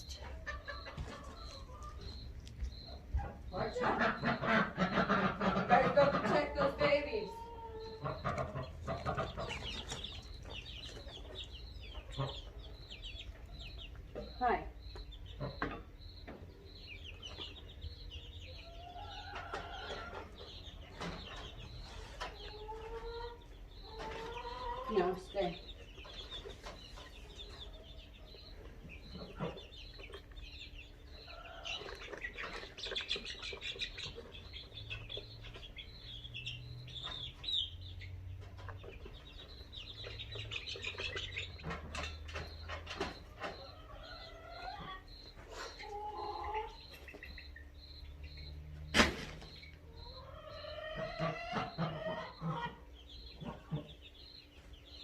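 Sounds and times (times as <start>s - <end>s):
chickens clucking: 0.0s - 55.0s
chicks chirping: 0.0s - 55.0s.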